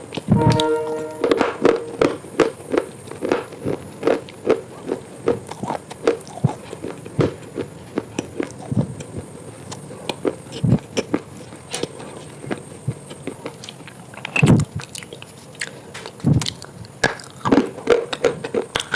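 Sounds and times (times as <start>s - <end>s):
chewing crisp baked clay: 3.2s - 18.9s.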